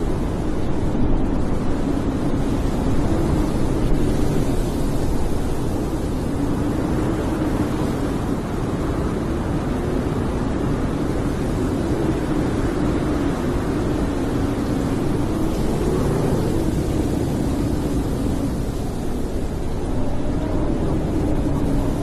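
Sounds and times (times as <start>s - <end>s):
snowstorm wind moaning: 0.0s - 22.0s.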